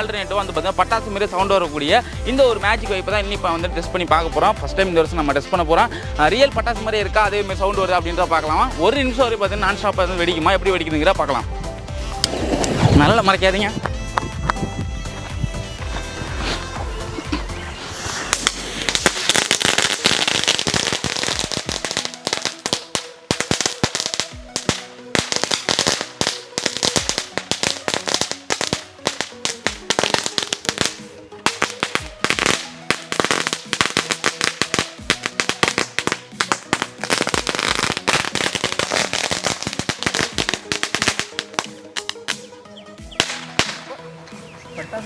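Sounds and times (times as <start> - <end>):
background music: 0.0 - 45.0.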